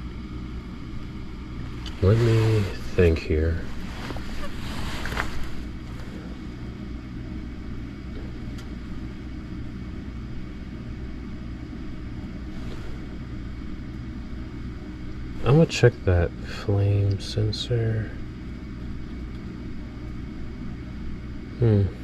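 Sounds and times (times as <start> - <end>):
furnace fan motors humming: 0.0 - 22.0.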